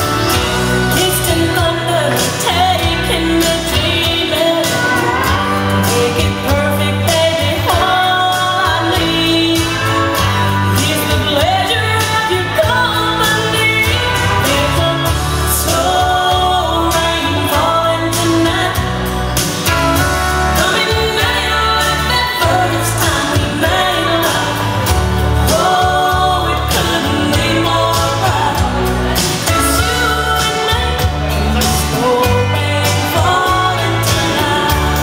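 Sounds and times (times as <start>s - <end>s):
song with singing voice and beat: 0.0s - 35.0s.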